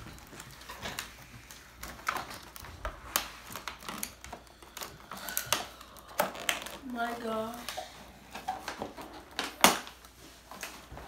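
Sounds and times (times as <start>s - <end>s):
cardboard and plastic packaging handled: 0.0s - 11.0s.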